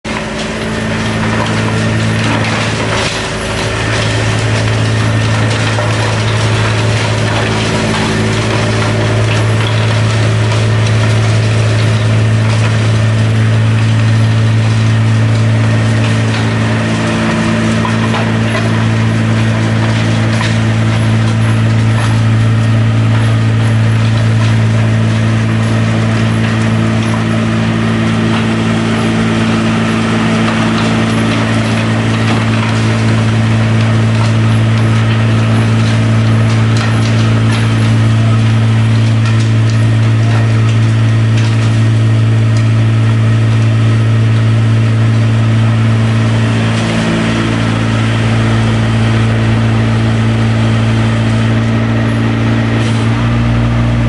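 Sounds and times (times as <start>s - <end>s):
grinding rattling of crushing: 0.0s - 54.0s
crusher drive hum: 0.1s - 54.0s.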